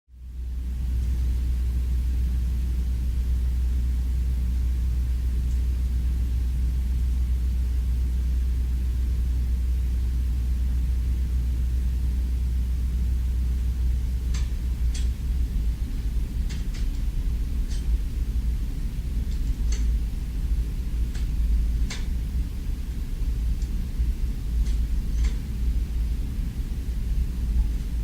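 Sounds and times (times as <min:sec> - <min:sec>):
steady low rumble: 0:00.2 - 0:28.0.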